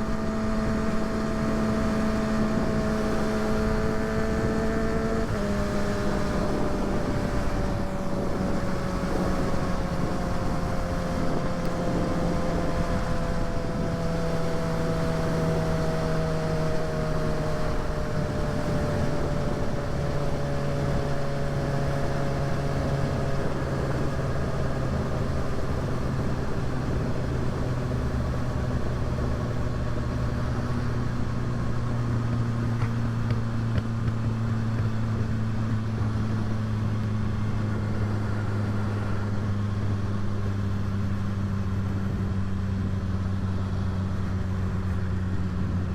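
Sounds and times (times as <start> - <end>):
motorcycle engine cruising: 0.0 - 45.9
wind noise: 0.0 - 45.9.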